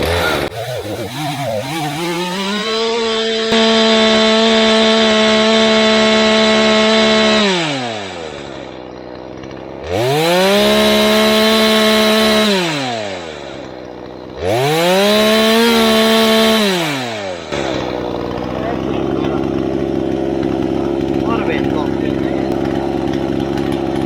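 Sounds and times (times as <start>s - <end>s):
chainsaw revving and idling: 0.0s - 24.0s.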